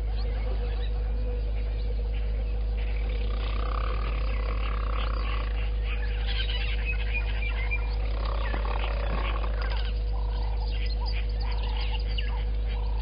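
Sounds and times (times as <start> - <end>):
birds chirping and calling: 0.0 - 13.0
steady low hum: 0.0 - 13.0.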